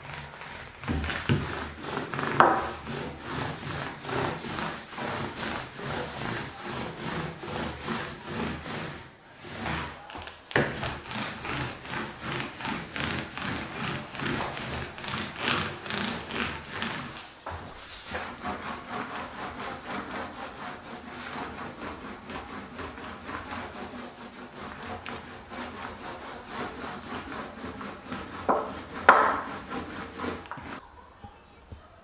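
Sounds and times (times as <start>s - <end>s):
sandpaper rubbing on wood: 0.0s - 30.8s.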